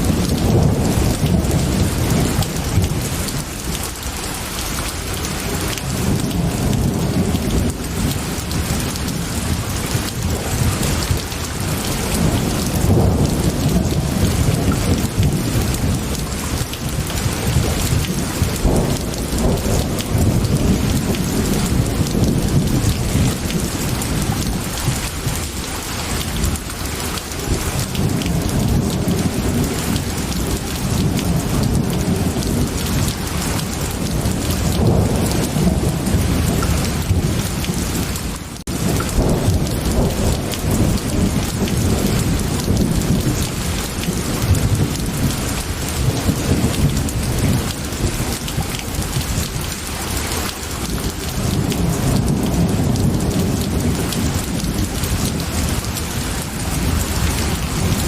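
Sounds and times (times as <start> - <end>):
low rolling thunder: 0.0 - 4.3, 4.9 - 58.0
heavy rain: 0.0 - 58.0.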